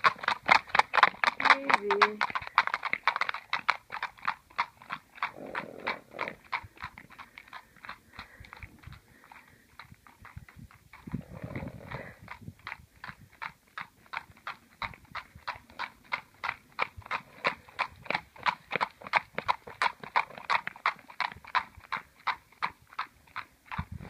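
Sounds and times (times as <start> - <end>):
horse hooves trotting on pavement: 0.0 - 24.0.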